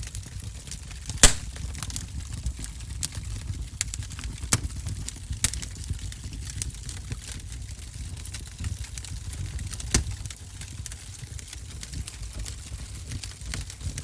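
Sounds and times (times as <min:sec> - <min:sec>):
fire popping and snapping: 0:01.0 - 0:14.0.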